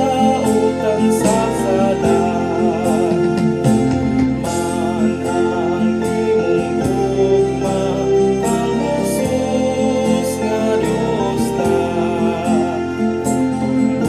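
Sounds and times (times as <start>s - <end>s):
devotional music with even beat: 0.0s - 14.0s.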